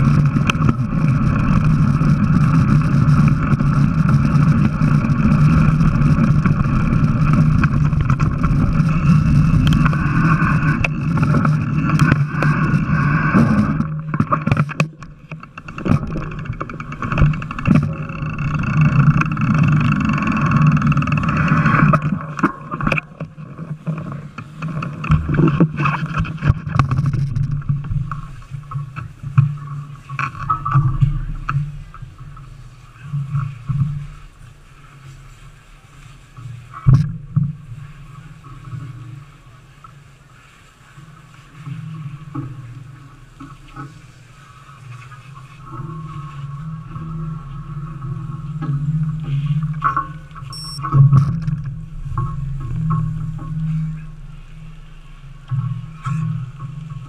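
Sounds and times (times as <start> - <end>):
low hum: 0.0 - 39.9, 40.9 - 57.0
wind and tyres rushing: 0.0 - 57.0.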